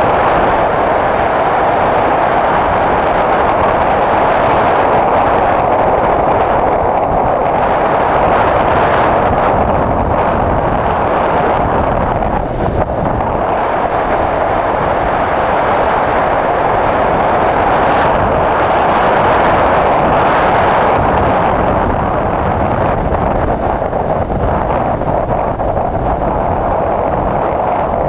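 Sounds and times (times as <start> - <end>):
wind rushing on microphone: 0.0 - 28.0.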